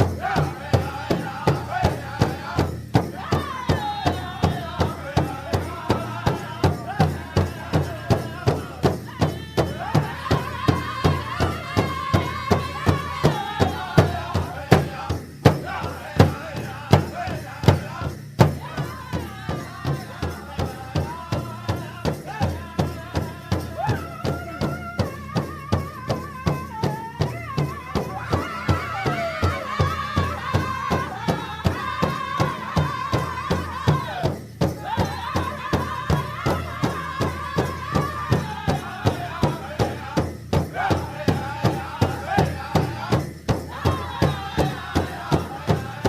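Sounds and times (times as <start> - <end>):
group chanting: 0.0 - 23.6, 28.2 - 46.0
steady drumbeat: 0.0 - 46.0.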